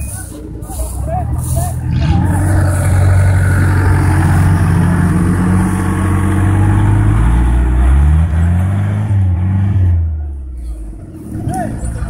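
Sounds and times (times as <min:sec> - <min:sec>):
vehicle engine working under load: 0:00.0 - 0:12.0.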